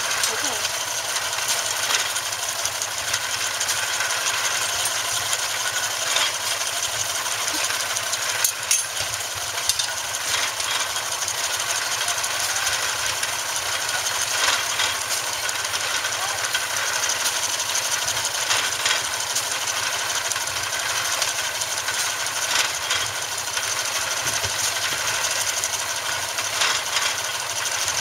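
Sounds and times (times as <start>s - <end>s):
rapid mechanical clatter: 0.0s - 28.0s
steam engine driving baler: 0.0s - 28.0s.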